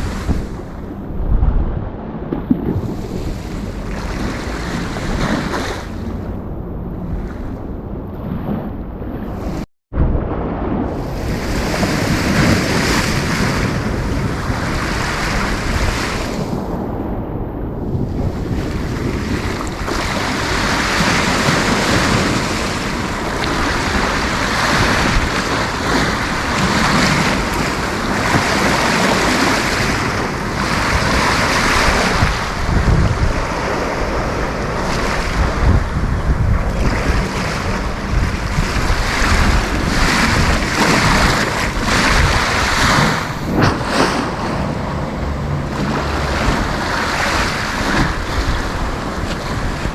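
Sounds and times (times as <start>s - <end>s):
sea waves breaking: 0.0s - 49.9s
wind buffeting microphone: 0.0s - 49.9s.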